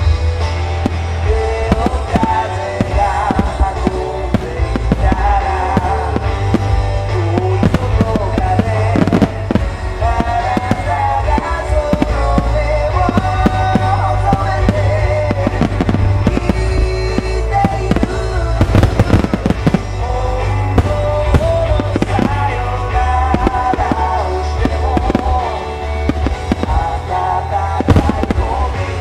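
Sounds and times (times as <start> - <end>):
fireworks bursting: 0.0 - 29.0
song with sung melody: 0.0 - 29.0.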